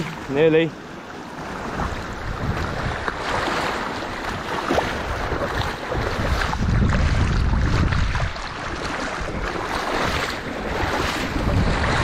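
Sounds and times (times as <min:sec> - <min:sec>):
sea water sloshing around legs: 0:00.0 - 0:12.0
small water splashes: 0:00.0 - 0:12.0
wind buffeting microphone: 0:01.3 - 0:12.0.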